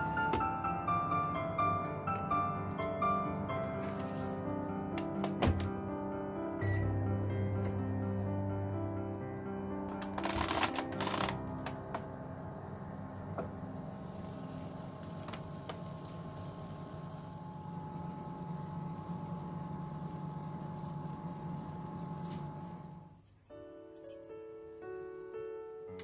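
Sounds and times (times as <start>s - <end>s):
oven fan humming: 0.0s - 23.2s.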